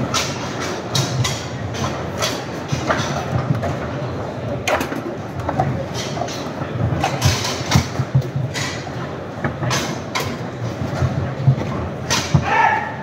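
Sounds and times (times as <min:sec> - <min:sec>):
crowd chatter in large hall: 0:00.0 - 0:13.0.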